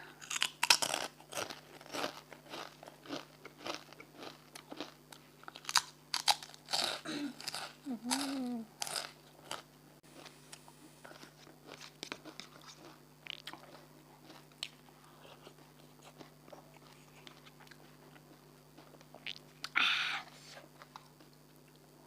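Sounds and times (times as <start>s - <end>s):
chewing and eating mouth sounds: 0.2s - 19.8s.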